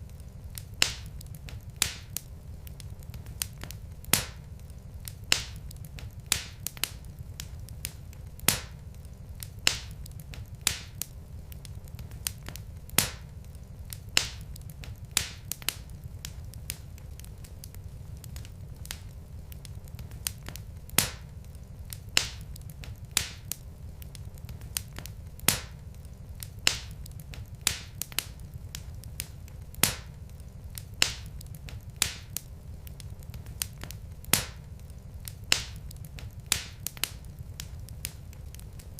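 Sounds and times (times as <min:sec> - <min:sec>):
low rumble of burning logs: 0:00.0 - 0:38.9
wood fire popping and snapping: 0:00.0 - 0:38.9.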